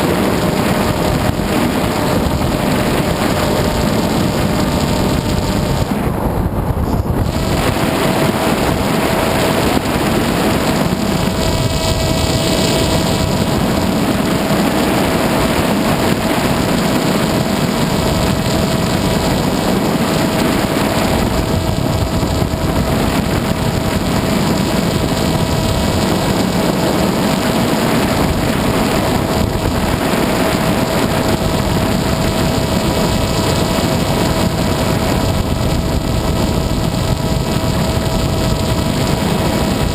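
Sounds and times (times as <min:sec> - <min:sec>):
electric motor whine: 0:00.0 - 0:39.9
wind rush on microphone: 0:00.0 - 0:39.9.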